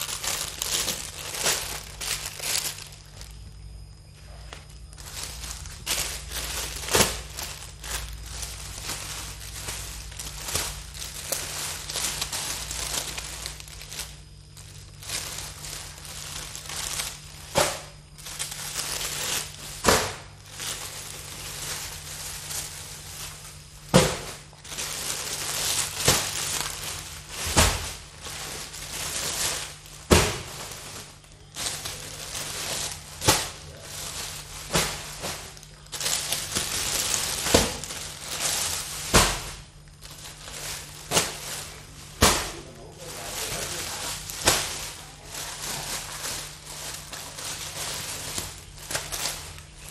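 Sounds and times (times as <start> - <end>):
packs smacking on tile floor: 0.0 - 3.4, 4.4 - 14.2, 14.8 - 42.6, 43.3 - 49.9
plastic wrapping crinkling: 0.0 - 49.9.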